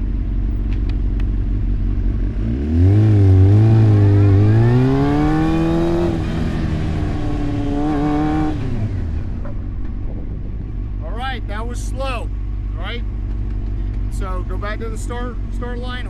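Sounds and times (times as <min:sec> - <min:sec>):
low rumble of wind: 0:00.0 - 0:16.0
motorcycle engine accelerating: 0:00.0 - 0:16.0.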